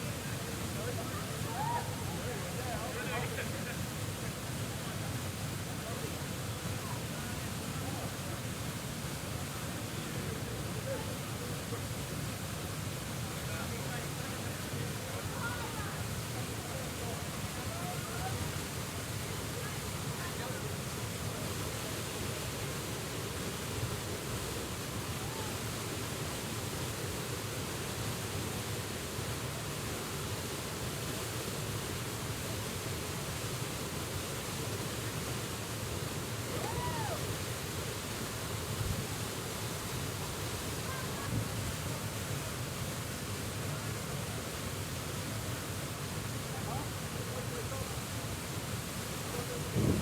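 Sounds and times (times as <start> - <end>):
waterfall roaring: 0.0 - 50.0.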